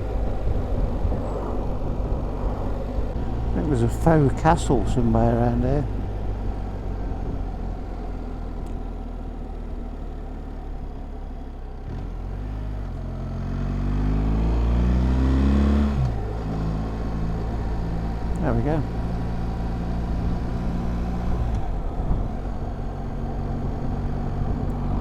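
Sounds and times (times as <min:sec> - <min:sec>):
motorcycle engine running: 0:00.0 - 0:14.4, 0:15.0 - 0:25.0.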